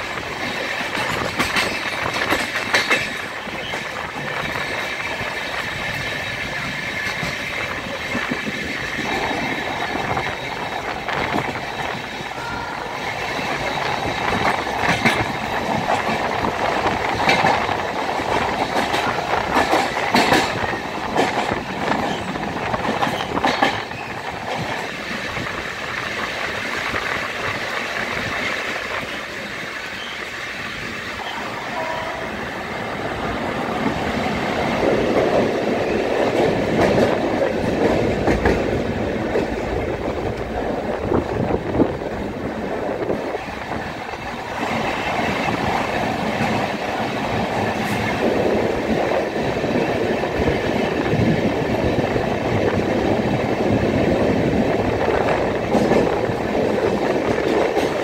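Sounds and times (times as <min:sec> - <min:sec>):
train wheels rumbling on track: 0:00.0 - 0:58.0
clacks over rail joints: 0:00.1 - 0:12.1, 0:13.2 - 0:30.6, 0:33.8 - 0:58.0.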